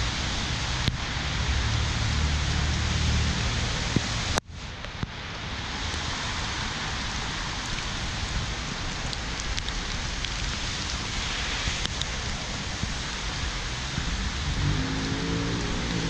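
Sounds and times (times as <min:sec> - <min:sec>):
rain falling on footpath: 0:00.0 - 0:16.0
wind noise on microphone: 0:00.0 - 0:16.0.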